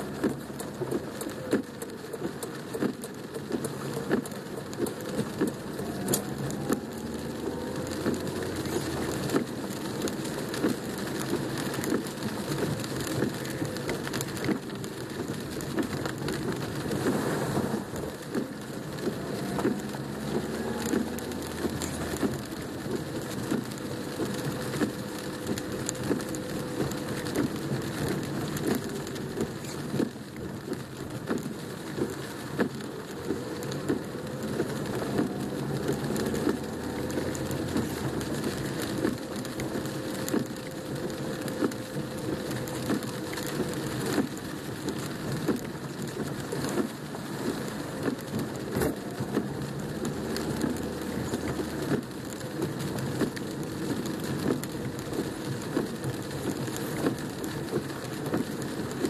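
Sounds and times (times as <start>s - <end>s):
low car hum: 0.0s - 59.0s
rain drumming on car roof: 0.0s - 59.0s.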